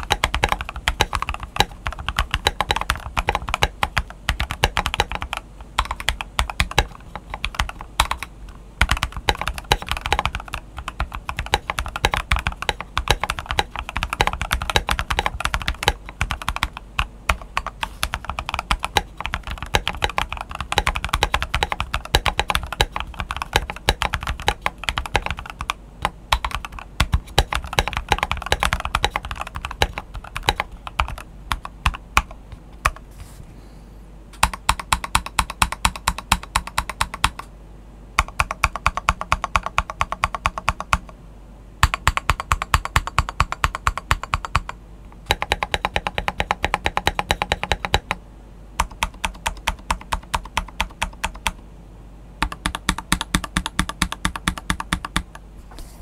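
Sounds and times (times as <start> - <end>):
mechanical keyboard typing: 0.0 - 33.0, 34.4 - 37.5, 38.2 - 41.1, 41.8 - 48.2, 48.8 - 51.6, 52.4 - 55.4.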